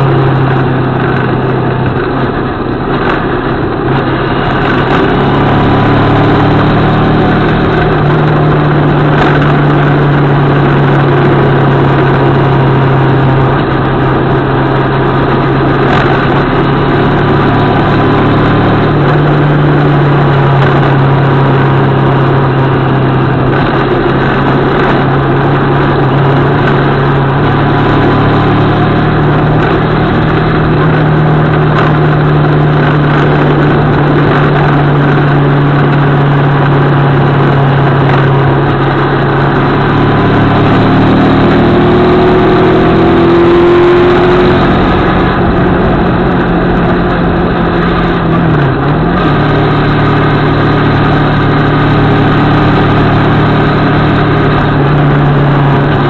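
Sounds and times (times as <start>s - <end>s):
motorcycle engine running: 0.0s - 56.0s
wind noise: 0.0s - 56.0s.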